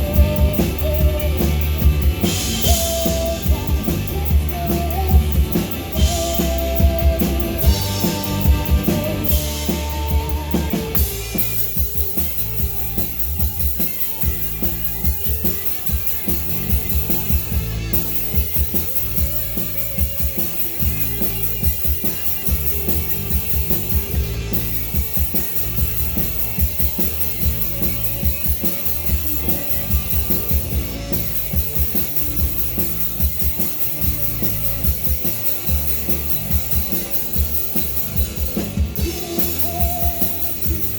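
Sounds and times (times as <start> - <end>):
bass guitar: 0.0 - 40.9
drum kit beat: 0.0 - 40.9
electric guitar: 0.0 - 40.9.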